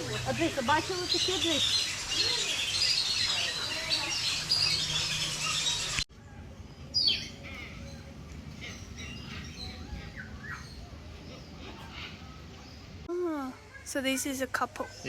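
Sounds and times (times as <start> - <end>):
birds chirping in chorus: 0.0 - 13.1.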